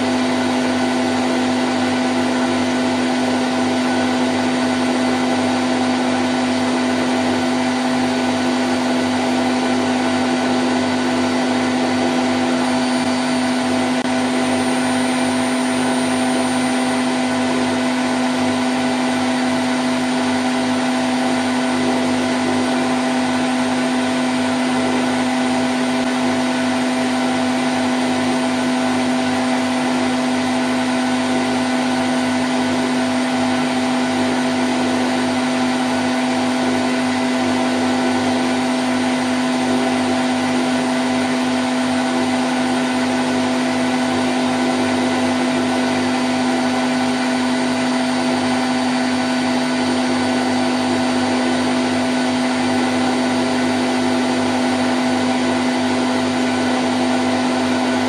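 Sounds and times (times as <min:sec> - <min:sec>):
washing machine spin cycle: 0:00.0 - 0:58.0.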